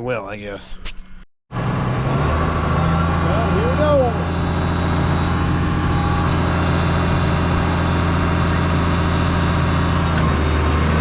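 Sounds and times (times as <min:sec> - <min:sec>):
tractor engine running under load: 0:01.6 - 0:11.0.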